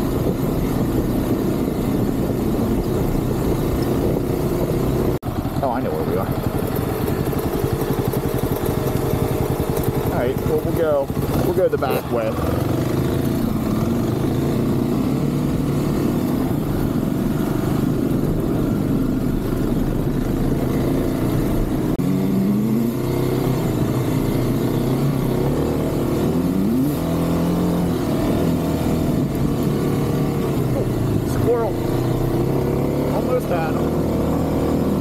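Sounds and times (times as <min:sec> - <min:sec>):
dirt bike engine revving: 0:00.0 - 0:35.0
wind and tyre noise: 0:00.0 - 0:35.0.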